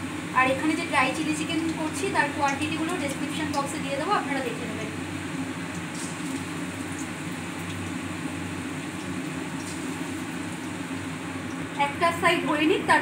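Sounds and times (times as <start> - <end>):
chicken frying in hot oil: 0.0 - 13.0
low steady hum: 0.0 - 13.0.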